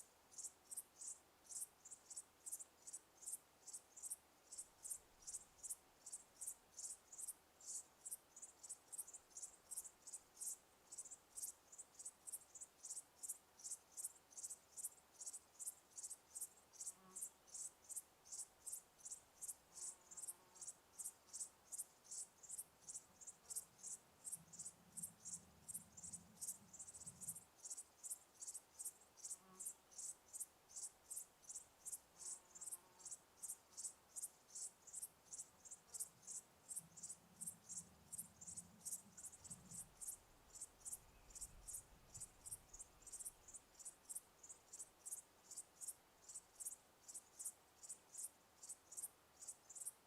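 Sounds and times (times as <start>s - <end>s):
cricket chirping: 0.0s - 50.0s.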